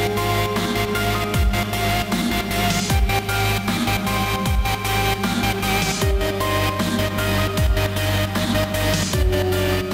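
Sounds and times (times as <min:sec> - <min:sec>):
electronic music with heavy bass: 0:00.0 - 0:09.9.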